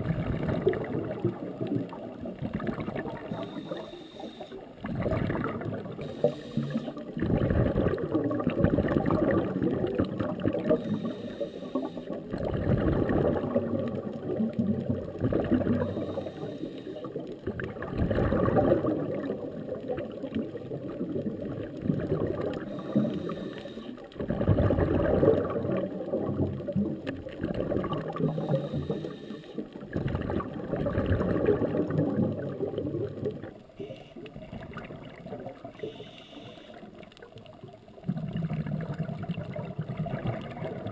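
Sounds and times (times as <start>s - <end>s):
diver's bubbles gurgling underwater: 0.0s - 36.0s, 36.8s - 40.9s
water noise: 0.0s - 40.9s.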